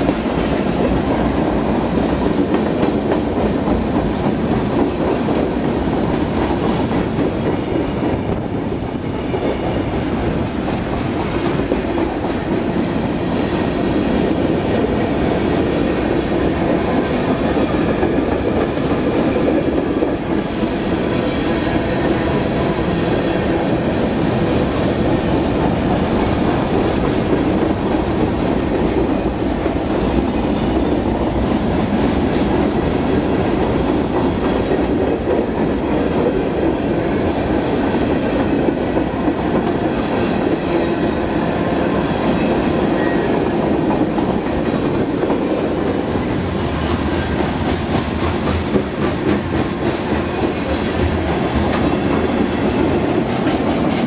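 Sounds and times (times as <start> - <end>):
freight cars rumbling on rails: 0.0 - 54.0.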